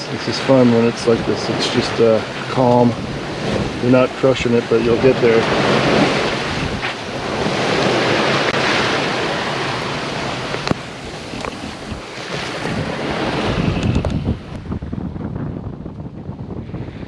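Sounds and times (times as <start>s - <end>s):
sea water rushing and splashing: 0.0s - 15.6s
wind buffeting microphone: 0.0s - 17.0s.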